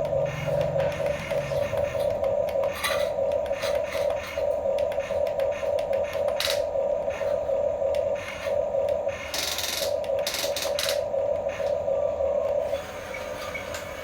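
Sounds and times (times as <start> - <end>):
small electric motors whining: 0.0 - 11.8.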